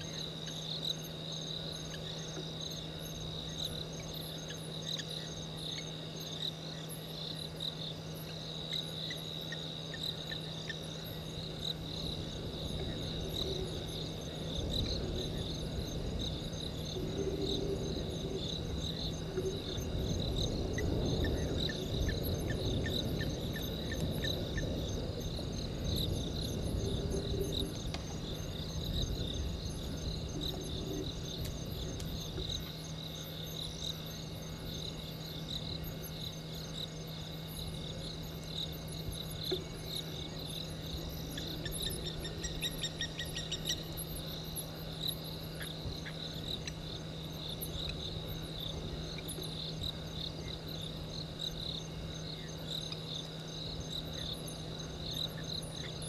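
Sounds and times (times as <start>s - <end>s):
constant low hum: 0.0s - 56.0s
crickets chirring: 0.0s - 56.0s.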